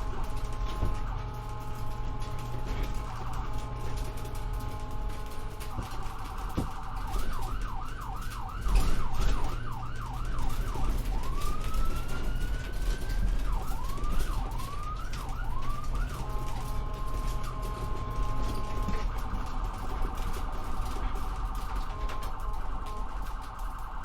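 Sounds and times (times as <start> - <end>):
ambulance siren: 0.0 - 24.0
low vehicle rumble: 0.0 - 24.0.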